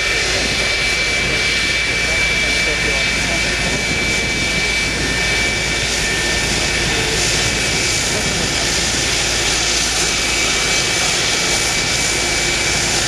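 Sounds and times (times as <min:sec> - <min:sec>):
jet engine roar with high whine: 0:00.0 - 0:13.0.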